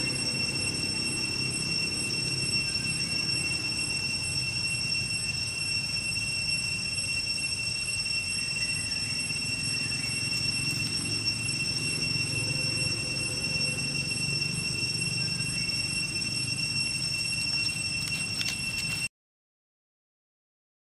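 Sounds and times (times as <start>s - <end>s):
insect drone: 0.0s - 19.1s.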